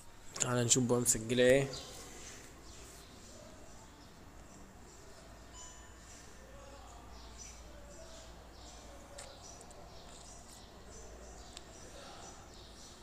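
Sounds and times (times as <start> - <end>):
small birds chirping faintly: 0.0 - 13.0.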